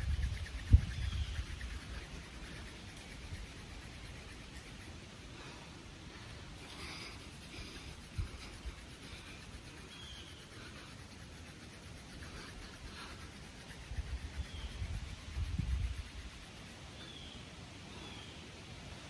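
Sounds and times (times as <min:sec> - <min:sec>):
hand drill dry scraping: 0:00.0 - 0:16.8.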